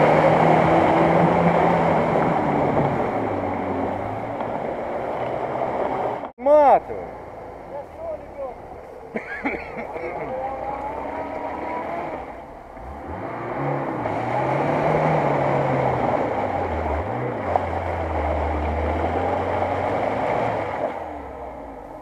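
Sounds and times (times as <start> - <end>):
car engine revving hard: 0.0 - 6.2, 10.0 - 21.7.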